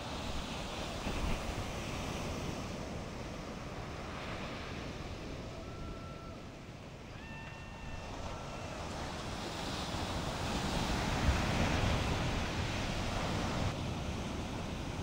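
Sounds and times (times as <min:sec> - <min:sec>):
waves breaking on shore: 0:00.0 - 0:15.0.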